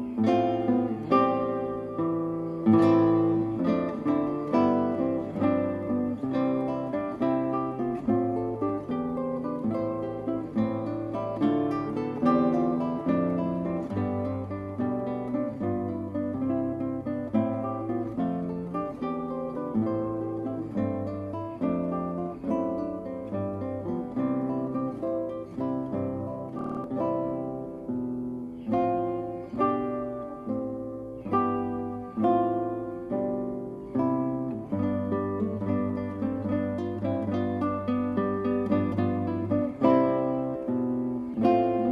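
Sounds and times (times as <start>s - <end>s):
plucked acoustic guitar: 0.0s - 41.9s.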